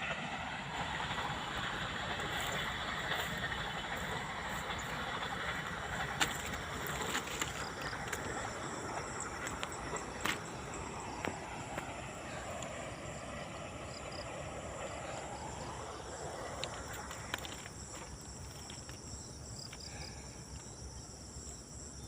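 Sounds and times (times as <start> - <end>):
broad rushing noise: 0.0 - 18.6
insects chirping shrilly: 0.2 - 22.0.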